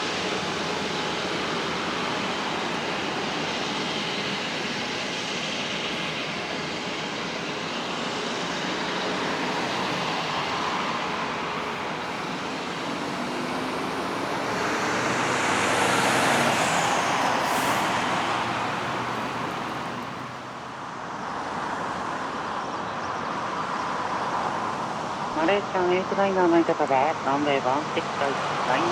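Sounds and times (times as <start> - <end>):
jet airliner engine noise: 0.0 - 28.9.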